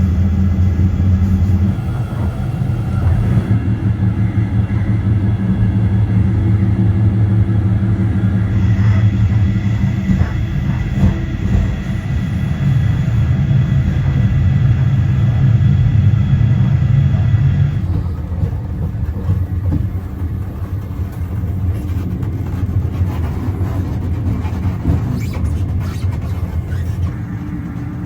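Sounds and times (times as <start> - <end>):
train rumbling: 0.0 - 28.0
train whine: 0.0 - 28.0.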